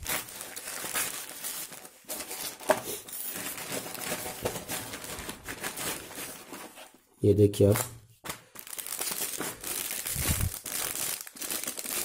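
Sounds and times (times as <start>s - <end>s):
plastic and foil crinkling: 0.0s - 7.0s, 7.7s - 12.0s.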